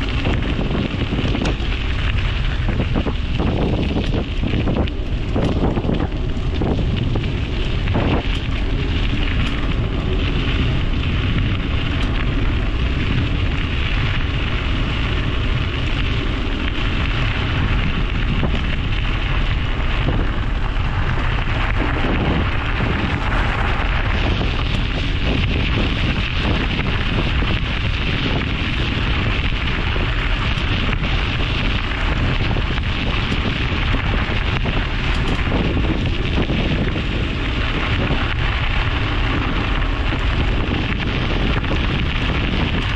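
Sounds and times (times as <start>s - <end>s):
bicycle tyres rolling on dirt road: 0.0s - 42.9s
wind rumbling on microphone: 0.0s - 42.9s.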